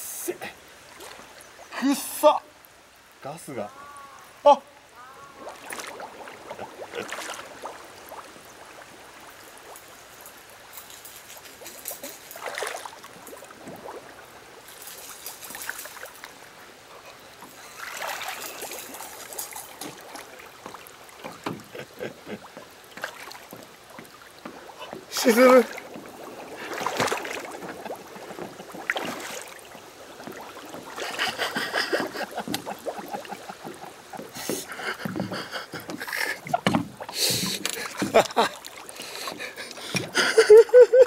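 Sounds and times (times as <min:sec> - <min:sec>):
steady background hiss: 0:00.0 - 0:41.0
water sloshing around wading legs: 0:05.0 - 0:41.0.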